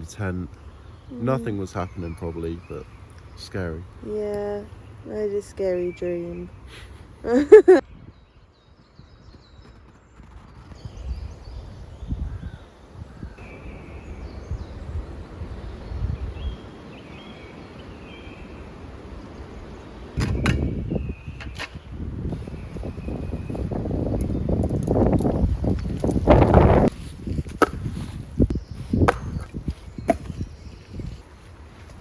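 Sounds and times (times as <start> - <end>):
low wind rumble: 0.0 - 32.0.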